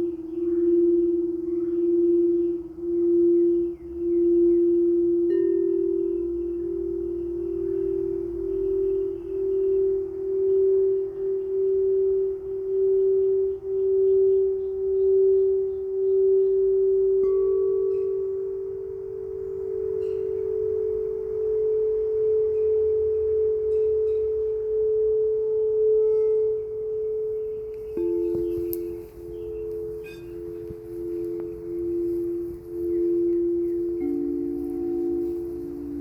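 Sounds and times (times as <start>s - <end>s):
singing bowls ringing: 0.0s - 36.0s.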